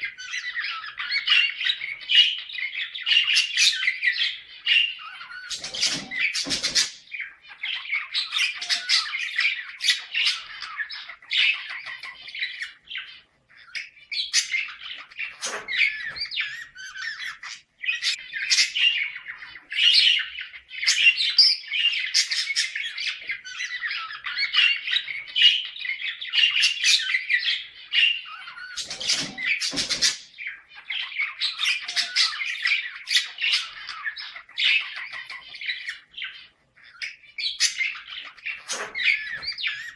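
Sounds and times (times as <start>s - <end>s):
budgerigars chattering: 0.0s - 39.9s
sharp bird calls: 0.0s - 39.9s.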